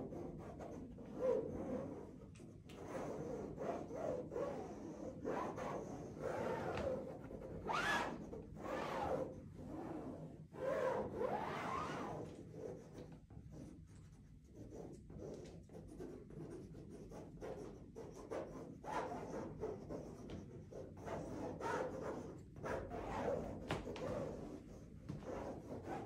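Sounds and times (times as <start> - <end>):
marker scratching on panel: 0.0 - 26.0.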